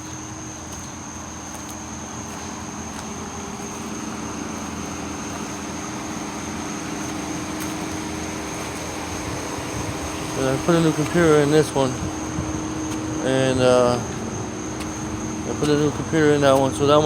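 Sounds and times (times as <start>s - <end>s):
crickets trilling: 0.0s - 17.0s
vehicle engine hum: 0.0s - 17.0s.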